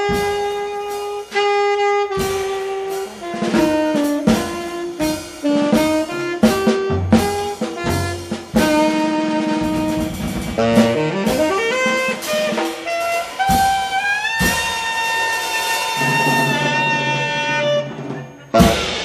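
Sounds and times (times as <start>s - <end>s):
cymbal crash: 0.0s - 19.0s
jazz band playing: 0.0s - 19.0s
saxophone lead: 0.0s - 19.0s.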